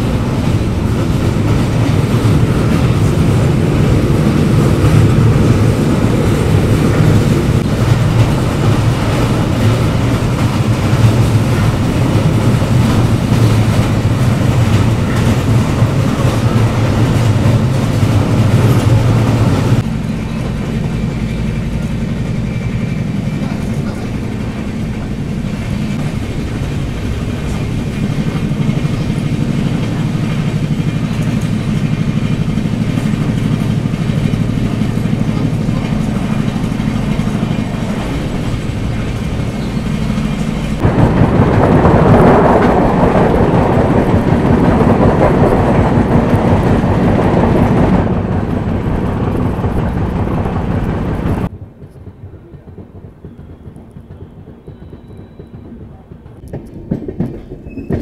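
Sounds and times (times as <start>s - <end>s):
train running on track: 0.0s - 58.0s.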